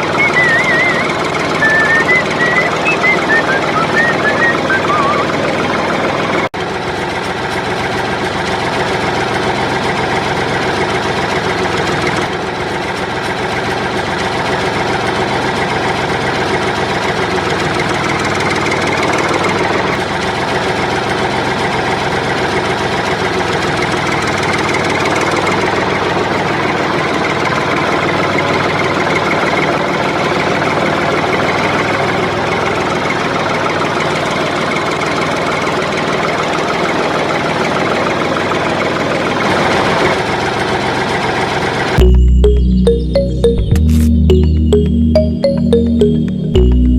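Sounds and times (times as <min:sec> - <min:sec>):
model tractor engine running: 0:00.0 - 0:42.0.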